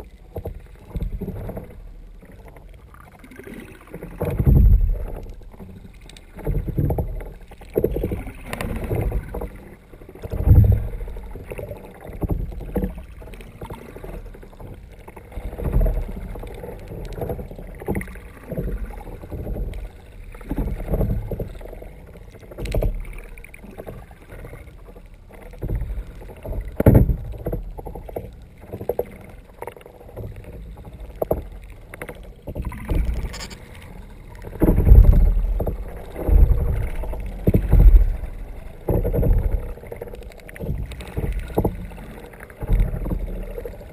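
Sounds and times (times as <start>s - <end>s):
muffled water sloshing against hull: 0.0s - 43.9s.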